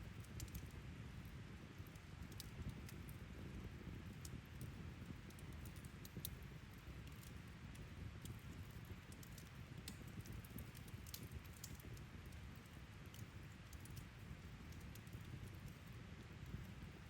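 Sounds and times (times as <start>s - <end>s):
light crackles and ticks: 0.0s - 17.0s.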